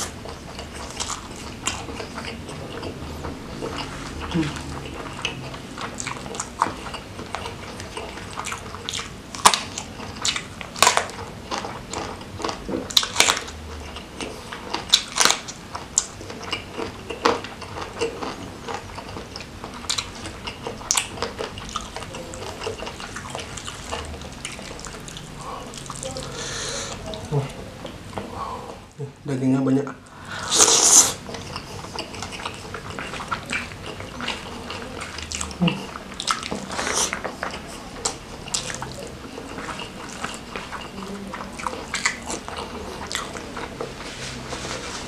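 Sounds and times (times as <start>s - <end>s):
wet chewing and smacking: 0.0s - 28.4s, 30.0s - 45.0s.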